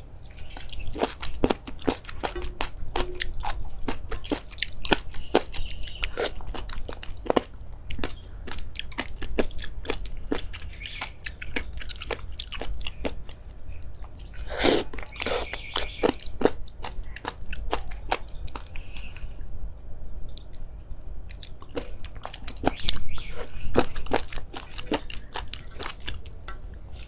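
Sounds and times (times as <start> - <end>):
person chewing crunchy food: 0.0 - 19.5, 21.3 - 27.0.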